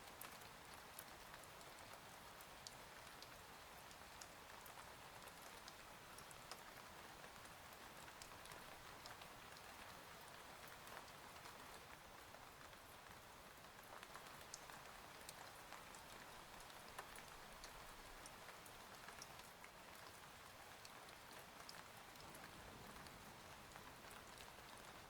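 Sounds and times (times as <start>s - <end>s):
faint rain: 0.0s - 25.0s.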